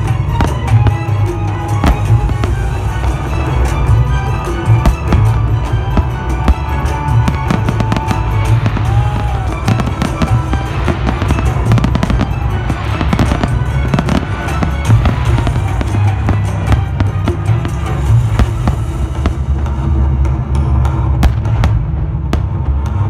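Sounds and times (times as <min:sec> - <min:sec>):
fireworks bangs and crackles: 0:00.0 - 0:23.0
loud music with heavy bass: 0:00.0 - 0:23.0.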